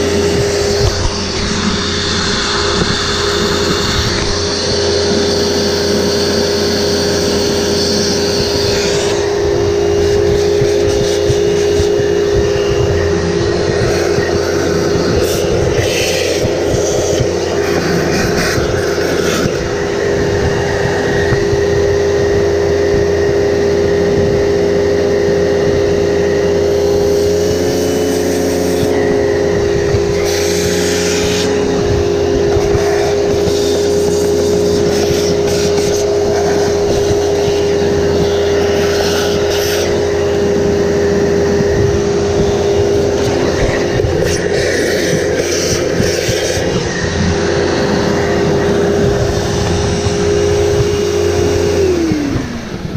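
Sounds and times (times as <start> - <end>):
vacuum cleaner motor whining: 0.0 - 52.9.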